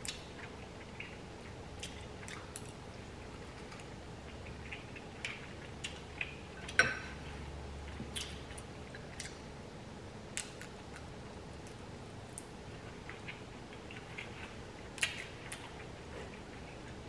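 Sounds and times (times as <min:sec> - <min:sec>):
chewing and wet mouth sounds: 0:00.0 - 0:09.5, 0:10.3 - 0:17.0.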